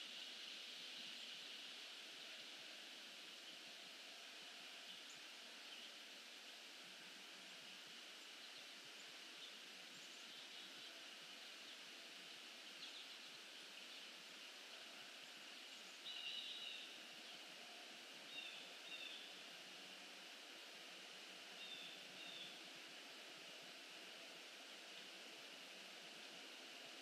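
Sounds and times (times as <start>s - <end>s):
steady outdoor hiss: 0.0s - 27.0s.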